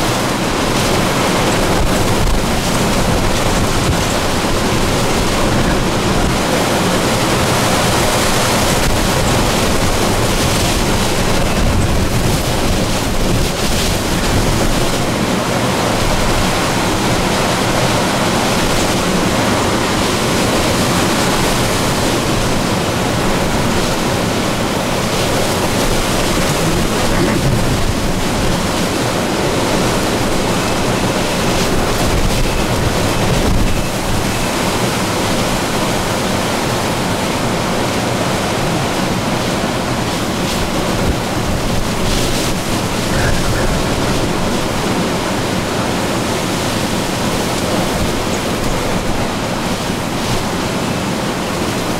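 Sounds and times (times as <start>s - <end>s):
hurricane wind and rain: 0.0s - 51.9s
wind buffeting microphone: 0.0s - 51.9s.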